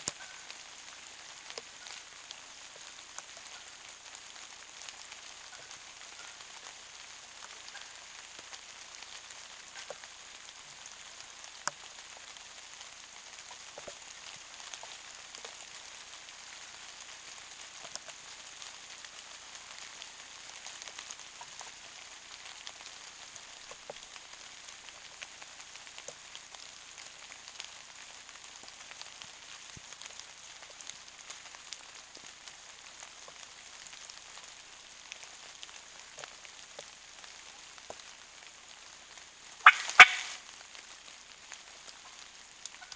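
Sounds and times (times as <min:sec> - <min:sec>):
raindrops ticking: 0:00.0 - 0:42.9
steady rain hiss: 0:00.0 - 0:42.9.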